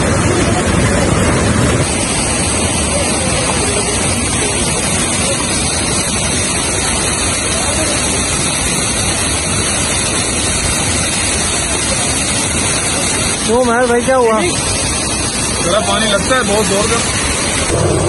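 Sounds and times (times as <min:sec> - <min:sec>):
waterfall pouring and splashing: 0:00.0 - 0:18.0.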